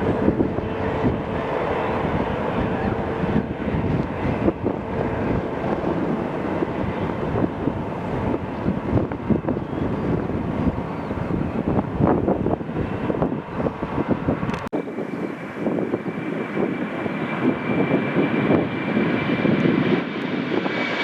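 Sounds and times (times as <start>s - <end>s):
jet engine noise: 0.0s - 21.0s
wind buffeting microphone: 0.0s - 21.0s.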